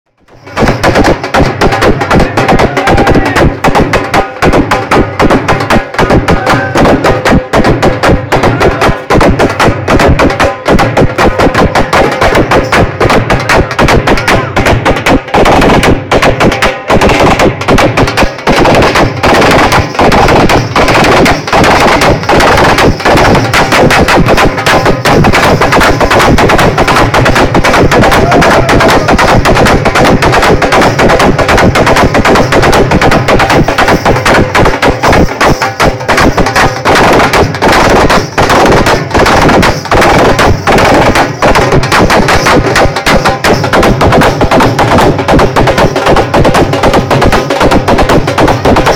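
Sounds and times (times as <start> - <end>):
dhol drum beaten hard: 0.2 - 48.9.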